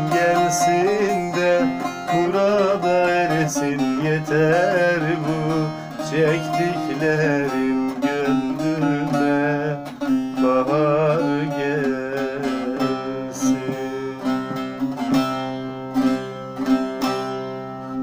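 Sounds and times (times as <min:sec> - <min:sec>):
long-necked lute strummed: 0:00.0 - 0:18.0.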